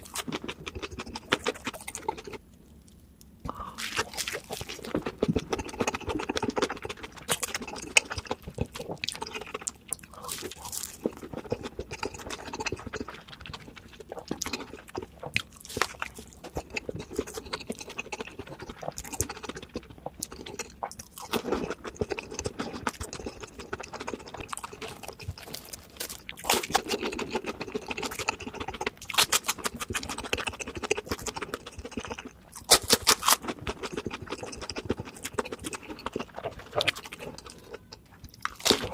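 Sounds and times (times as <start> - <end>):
chewing crispy fried food: 0.0 - 38.9.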